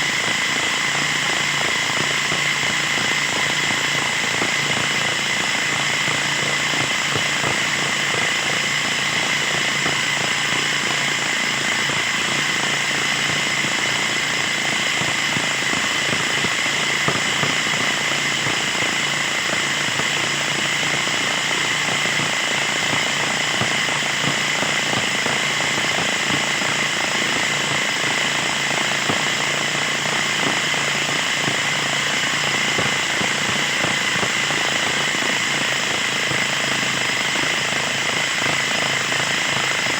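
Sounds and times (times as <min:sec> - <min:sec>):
mower petrol engine running: 0:00.0 - 0:39.9.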